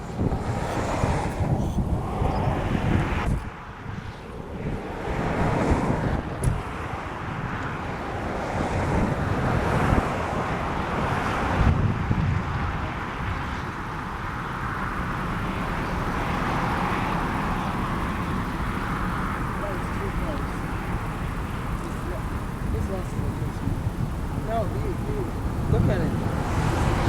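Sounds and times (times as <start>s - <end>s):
gusty wind buffeting microphone: 0.0s - 27.0s.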